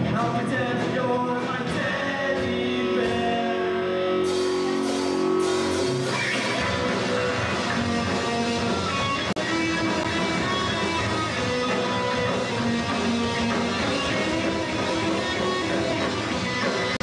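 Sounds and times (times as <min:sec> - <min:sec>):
live punk band playing: 0:00.0 - 0:17.0.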